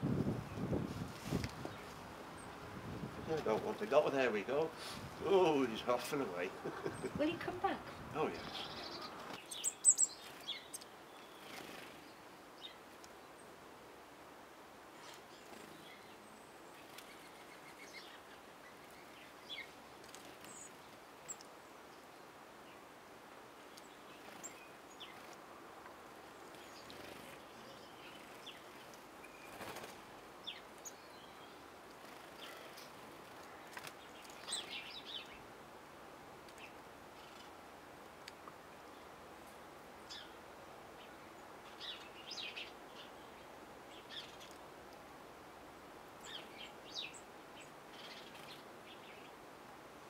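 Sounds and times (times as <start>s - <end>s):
steady outdoor hiss: 0.0s - 50.0s
small birds chirping: 0.4s - 13.6s, 14.9s - 35.6s, 36.4s - 45.0s, 46.2s - 49.4s.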